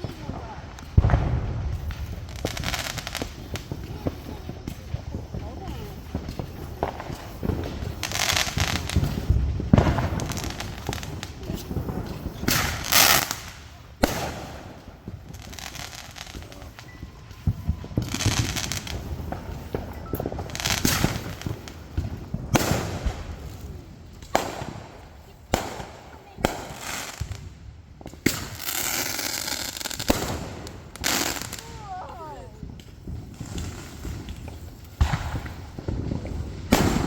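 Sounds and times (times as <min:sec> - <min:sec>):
fireworks banging: 0:00.0 - 0:37.0
fireworks hissing bursts: 0:00.0 - 0:37.0.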